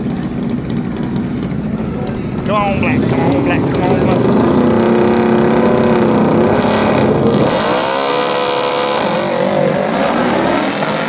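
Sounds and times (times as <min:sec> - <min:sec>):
racing lawn mower engines: 0:00.0 - 0:11.0.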